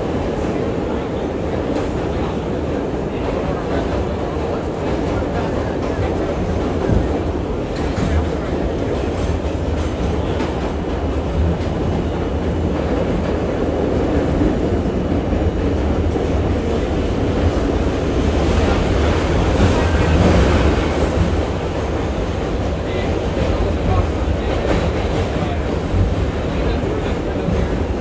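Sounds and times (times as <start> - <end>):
subway car rumbling on track: 0.0 - 28.0.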